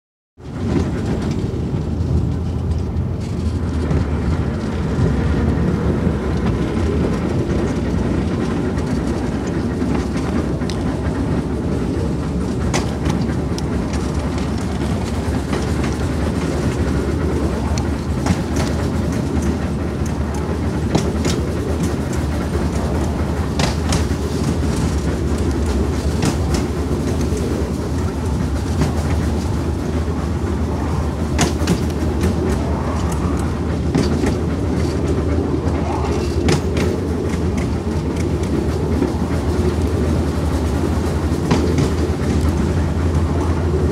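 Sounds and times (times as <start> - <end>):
train rumbling along track: 0.4 - 43.9
wheels clicking over rail joints: 0.4 - 43.9.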